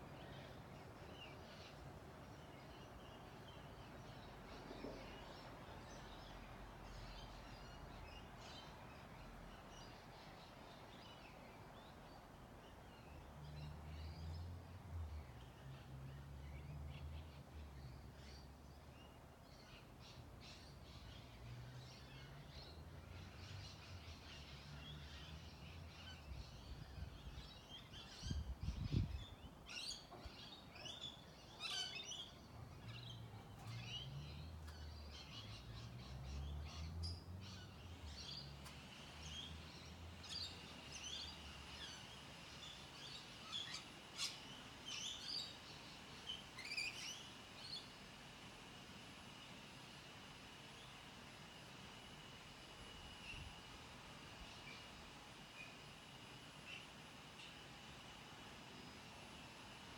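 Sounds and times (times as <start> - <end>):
small birds chirping: 0.0 - 57.6.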